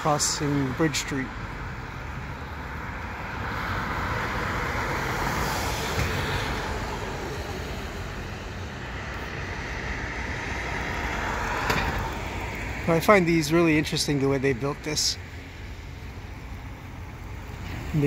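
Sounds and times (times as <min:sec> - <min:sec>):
road traffic: 0:00.0 - 0:18.0.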